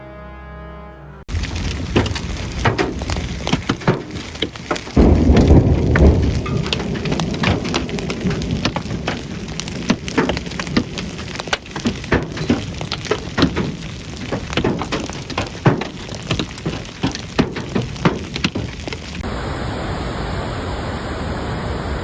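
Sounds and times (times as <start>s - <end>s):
heavy rain on hard surfaces: 1.3s - 22.0s.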